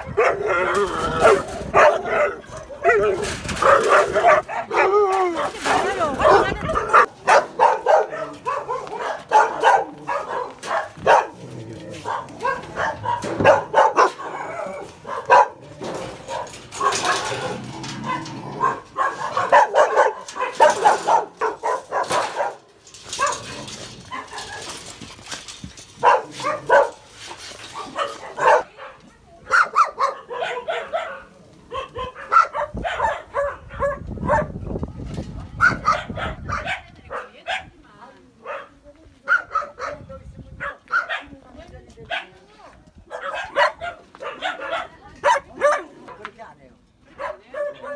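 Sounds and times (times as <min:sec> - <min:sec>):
dogs barking: 0:00.0 - 0:24.9, 0:26.0 - 0:27.1, 0:27.7 - 0:34.6, 0:35.6 - 0:37.8, 0:38.4 - 0:41.4, 0:43.1 - 0:46.2, 0:47.1 - 0:47.9.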